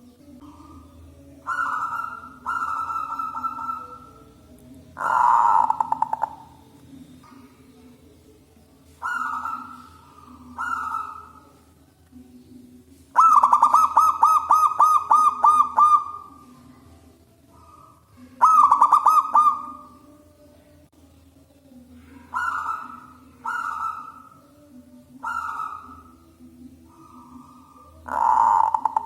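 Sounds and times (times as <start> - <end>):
dove cooing: 0.0 - 8.0, 8.9 - 12.0, 13.1 - 20.2, 21.9 - 29.0.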